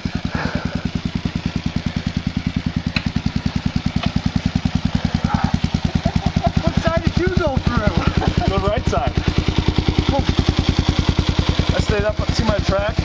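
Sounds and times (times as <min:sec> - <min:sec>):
dirt bike engine idling: 0:00.0 - 0:13.0.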